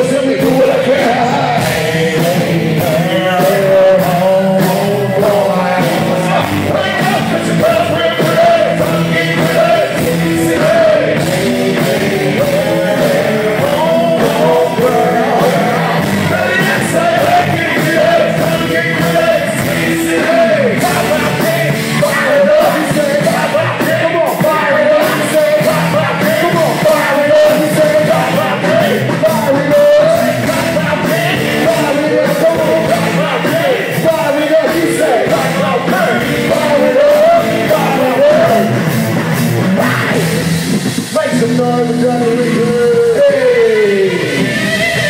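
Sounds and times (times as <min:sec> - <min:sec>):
person singing: 0:00.0 - 0:39.0, 0:39.6 - 0:45.0
live band playing rock hip-hop: 0:00.0 - 0:45.0.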